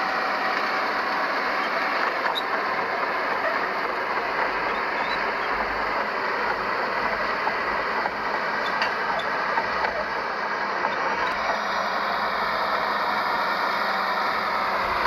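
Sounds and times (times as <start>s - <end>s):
heavy machinery engine clatter: 0.0s - 15.0s.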